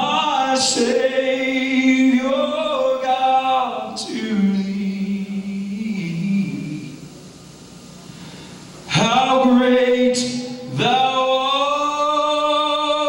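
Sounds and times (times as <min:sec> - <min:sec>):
man singing unaccompanied: 0:00.0 - 0:07.0, 0:08.9 - 0:13.0.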